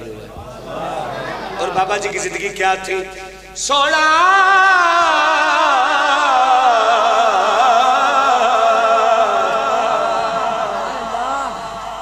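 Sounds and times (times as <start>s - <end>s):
man singing through microphone: 2.2s - 12.0s.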